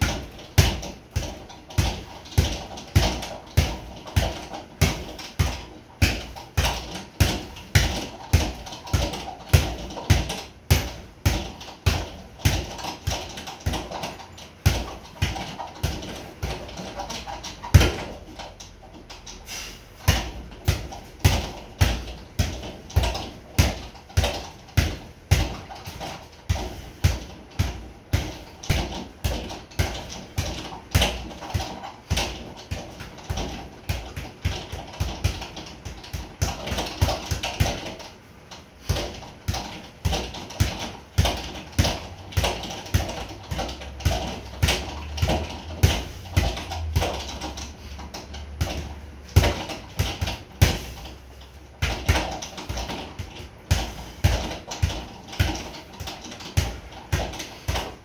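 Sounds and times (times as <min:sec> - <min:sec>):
boxing gloves smacking a bag: 0:00.0 - 0:58.0.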